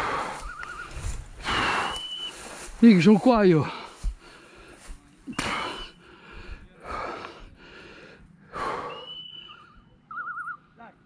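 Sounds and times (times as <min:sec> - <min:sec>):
person breathing hard: 0:00.0 - 0:09.1.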